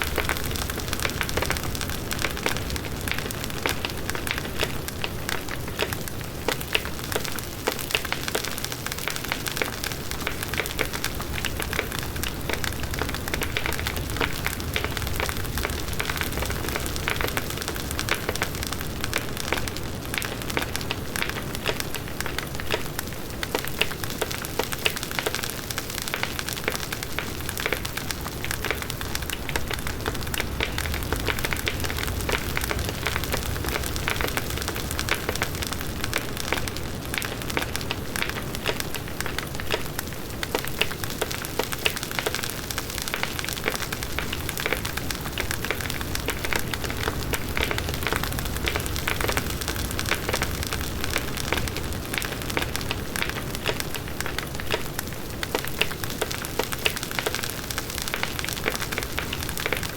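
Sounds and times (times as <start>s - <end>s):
burning wood crackling and popping: 0.0s - 59.9s.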